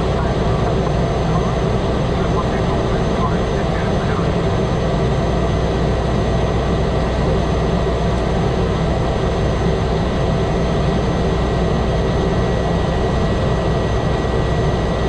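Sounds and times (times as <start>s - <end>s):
propeller engine drone: 0.0s - 15.0s
thin steady whine: 0.0s - 15.0s.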